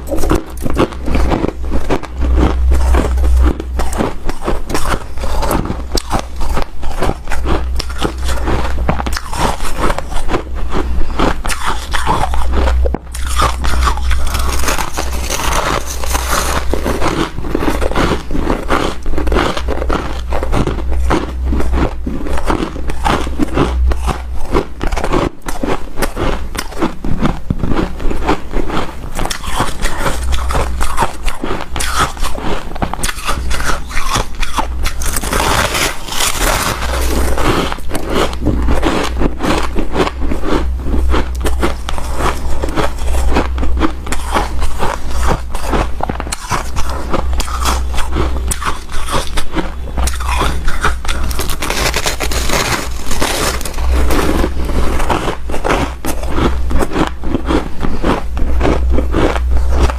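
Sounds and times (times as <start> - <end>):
chewing crunchy ice: 0.0 - 59.9
low hum: 0.0 - 59.9.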